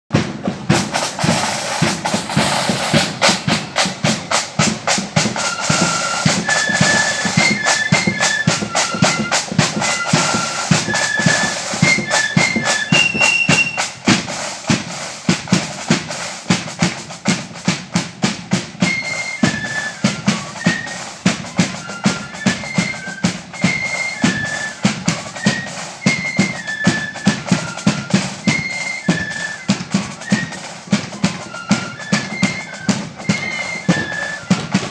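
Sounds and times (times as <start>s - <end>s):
snare and bass drums marching: 0.1s - 34.9s
flute melody: 0.2s - 34.9s.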